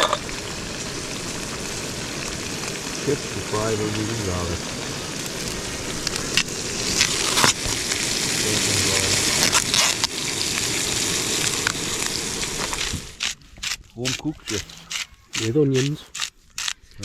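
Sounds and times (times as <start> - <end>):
chips sizzling in hot oil: 0.0 - 17.0.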